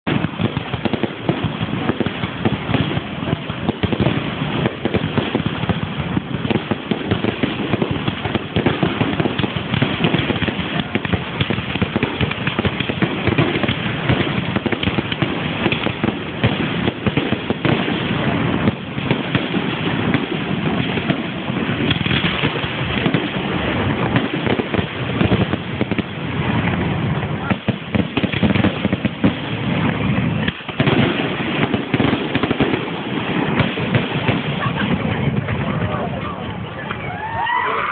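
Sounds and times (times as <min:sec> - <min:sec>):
fireworks bangs: 0:00.0 - 0:37.9.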